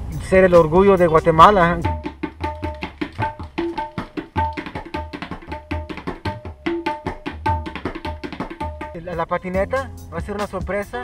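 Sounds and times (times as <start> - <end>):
tabla drumming: 0.0 - 11.0.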